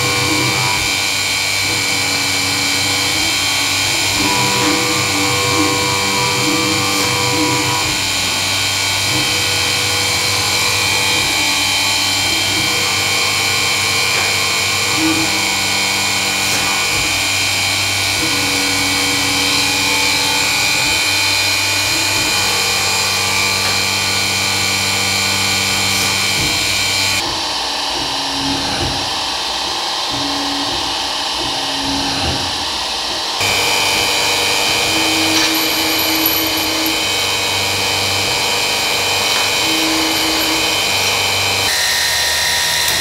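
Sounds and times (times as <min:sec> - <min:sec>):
milling machine cutting metal: 0:00.0 - 0:27.5, 0:28.4 - 0:43.0.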